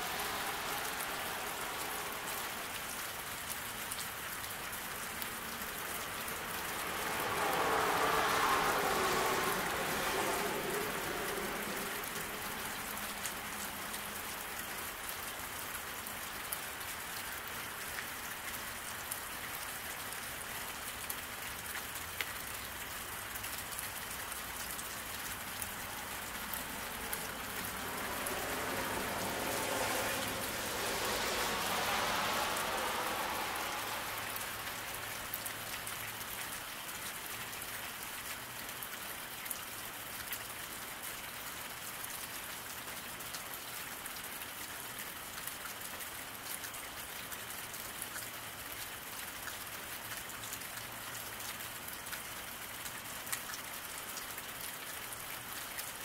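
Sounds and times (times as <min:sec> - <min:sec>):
car tyres hissing on wet road: 0:00.0 - 0:51.9
rain falling on pavement: 0:00.0 - 0:56.0.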